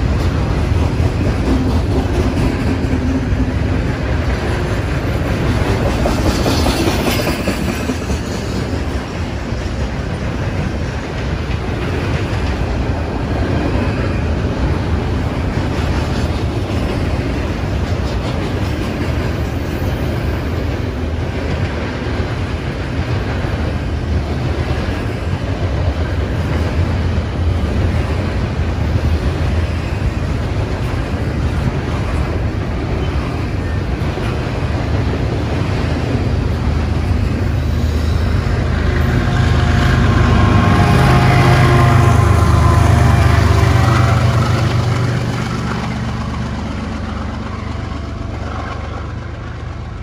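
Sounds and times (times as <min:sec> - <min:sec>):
diesel locomotive engine hum: 0:00.0 - 0:50.0
train wheels rumbling on rail: 0:00.0 - 0:50.0.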